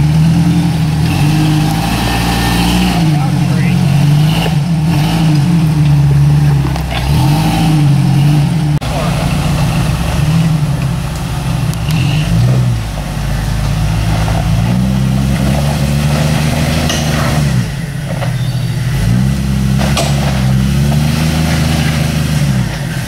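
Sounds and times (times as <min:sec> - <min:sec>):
suv engine revving: 0:00.0 - 0:23.0.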